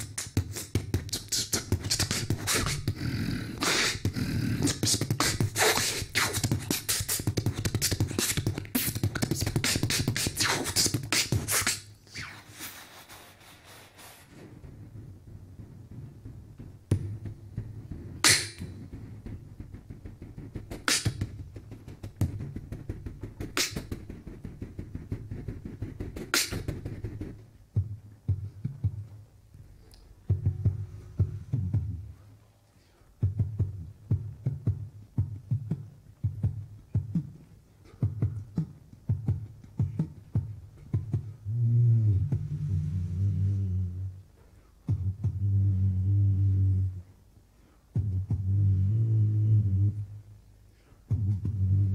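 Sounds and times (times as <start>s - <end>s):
beatboxing into a microphone: 0.0s - 29.2s, 29.8s - 32.3s, 33.2s - 47.1s, 47.9s - 50.1s, 51.0s - 51.9s.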